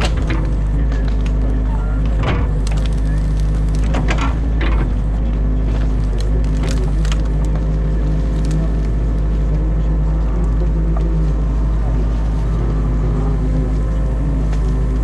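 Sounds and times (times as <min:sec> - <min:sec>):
branches cracking and splintering: 0:00.0 - 0:15.0
excavator diesel engine running: 0:00.0 - 0:15.0.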